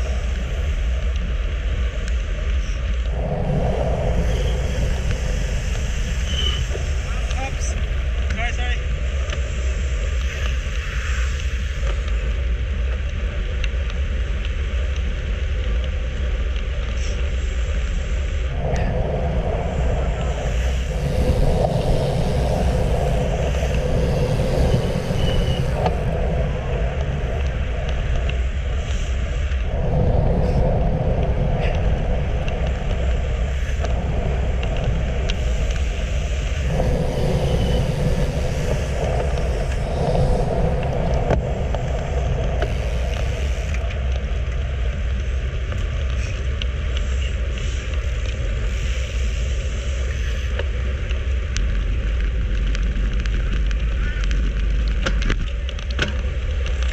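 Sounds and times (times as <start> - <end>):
tyre and road noise: 0.0 - 56.9
wind rumble on microphone: 0.0 - 56.9.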